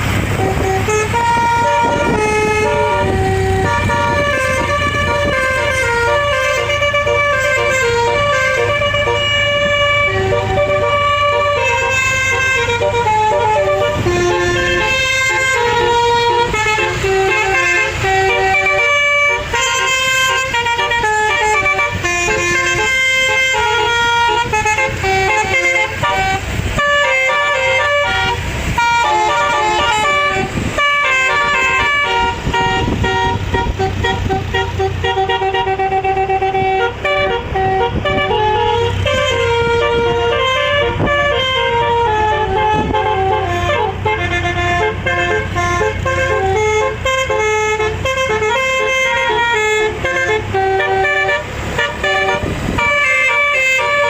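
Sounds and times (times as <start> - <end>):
bus engine humming: 0.0 - 54.0
musical bus horn tunes: 0.0 - 54.0.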